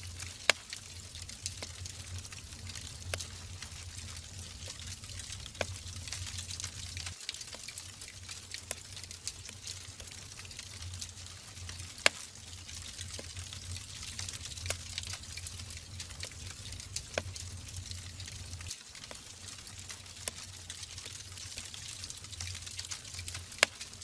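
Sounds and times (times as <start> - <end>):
fire hissing and rumbling: 0.0 - 24.0
logs crackling and popping: 0.0 - 24.0.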